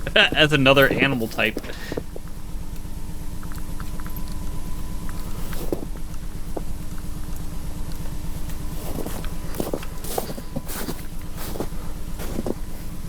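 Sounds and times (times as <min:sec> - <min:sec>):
thin steady hum: 0:00.0 - 0:13.0.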